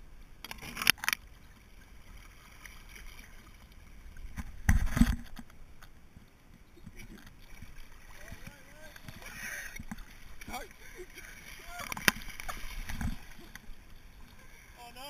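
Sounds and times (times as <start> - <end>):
water sloshing and splashing: 0.4 - 15.0.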